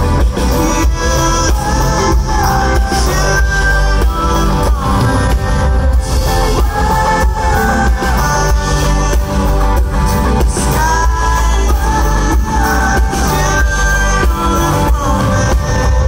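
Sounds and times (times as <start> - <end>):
lead vocal singing: 0.0 - 16.0
live rock band playing: 0.0 - 16.0
steady drum beat: 0.0 - 16.0.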